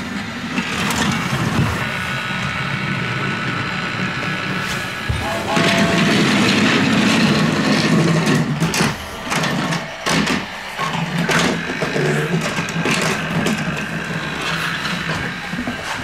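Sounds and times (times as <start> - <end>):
toy train motor whirring: 0.5 - 16.0.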